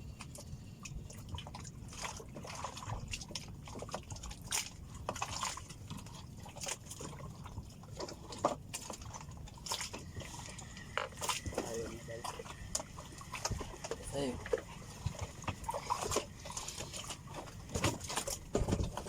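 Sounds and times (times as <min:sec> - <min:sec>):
water lapping against boat: 0:00.0 - 0:19.0
small splashes: 0:00.2 - 0:19.0.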